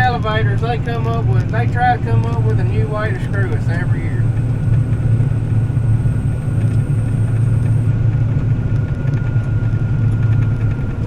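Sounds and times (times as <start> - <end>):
combine harvester engine drone: 0.0 - 11.0
faint steady whine: 0.0 - 11.0.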